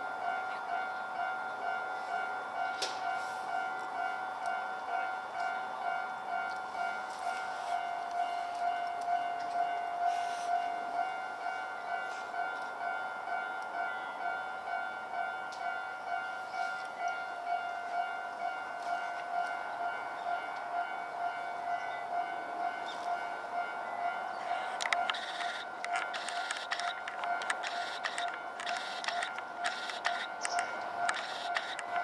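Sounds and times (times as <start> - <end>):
faint railway clanks: 0.0 - 32.0
level crossing alarm dinging: 0.0 - 32.0.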